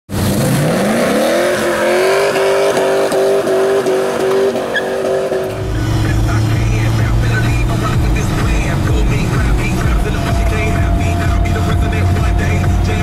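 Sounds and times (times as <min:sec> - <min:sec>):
engine revving: 0:00.1 - 0:13.0.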